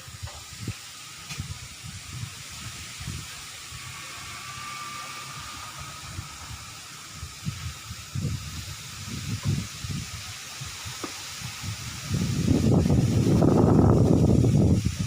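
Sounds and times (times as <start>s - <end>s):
wind buffeting microphone: 0.0s - 15.0s
wind hiss: 0.0s - 15.0s.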